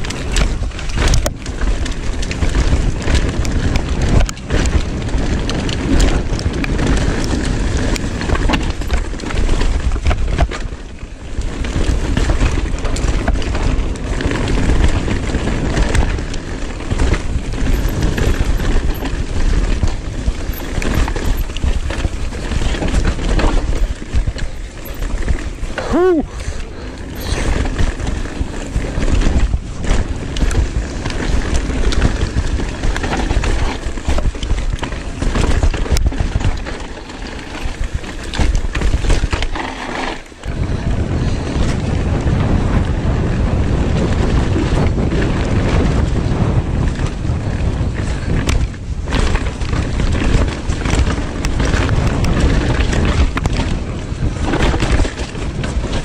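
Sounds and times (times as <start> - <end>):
bike clicking and rattling: 0.0 - 56.0
tyres rolling over leafy dirt: 0.0 - 56.0
wind buffeting microphone: 0.0 - 56.0.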